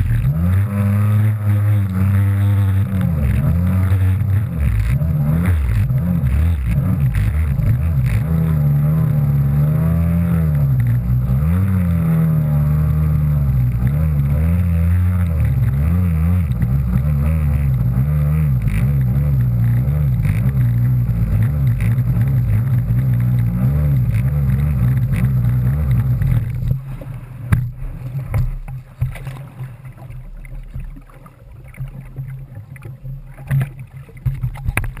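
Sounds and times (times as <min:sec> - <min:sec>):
jet ski engine running hard: 0:00.0 - 0:30.2.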